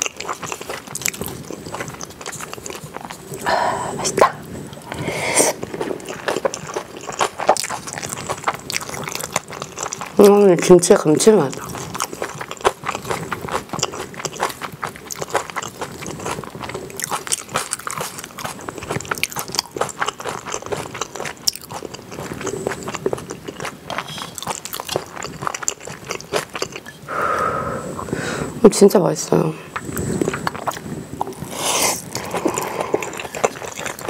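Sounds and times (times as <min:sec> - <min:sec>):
chewing noodles: 0:00.0 - 0:28.2, 0:29.7 - 0:34.0.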